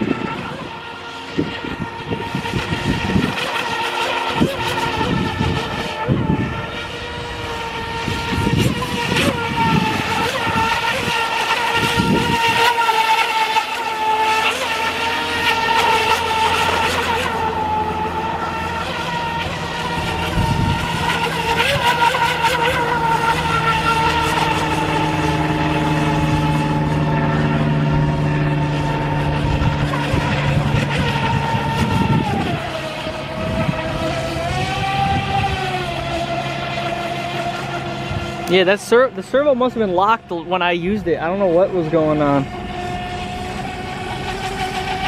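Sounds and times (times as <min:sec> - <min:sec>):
electric motor whine: 0:00.0 - 0:45.0.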